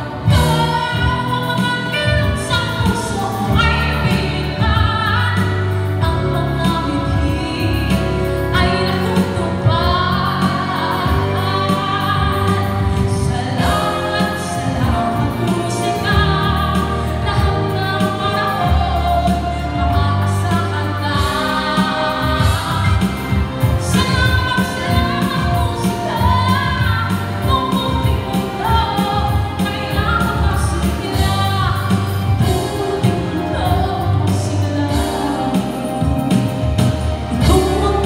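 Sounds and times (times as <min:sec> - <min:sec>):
instrumental accompaniment: 0:00.0 - 0:38.0
woman singing into microphone: 0:00.0 - 0:38.0.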